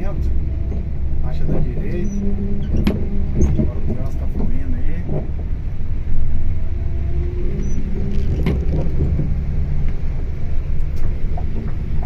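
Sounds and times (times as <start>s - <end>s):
bus engine and tyres rumbling: 0.0s - 12.0s.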